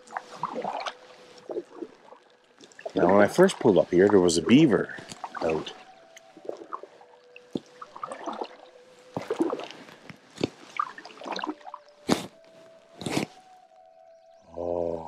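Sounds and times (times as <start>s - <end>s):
water dripping off paddle: 0.0s - 12.5s
paddle pulling through water: 0.0s - 13.4s.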